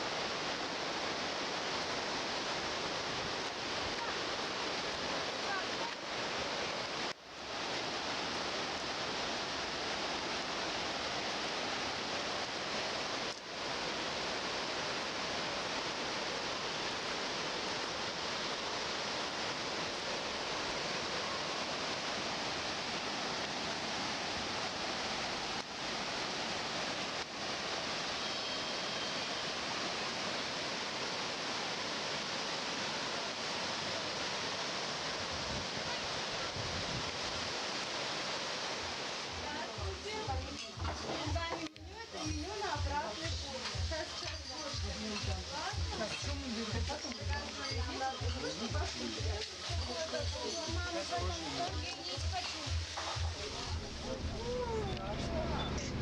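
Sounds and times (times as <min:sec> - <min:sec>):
rushing water hiss: 0:00.0 - 0:56.0.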